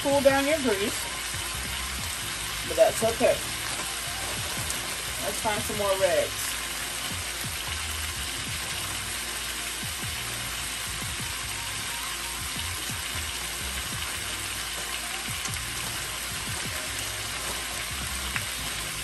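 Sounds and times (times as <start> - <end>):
background music with bass: 0.0 - 19.0
oil sizzling in a skillet: 0.0 - 19.0.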